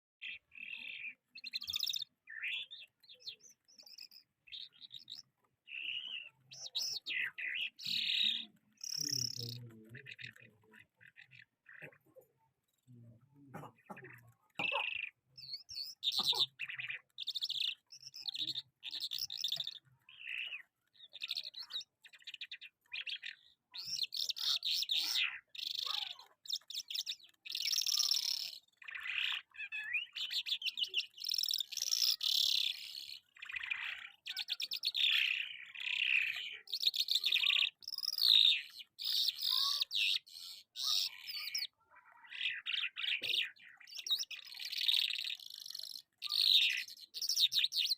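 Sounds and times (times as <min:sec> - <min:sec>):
lark singing: 0:00.2 - 0:12.0, 0:14.2 - 0:47.9.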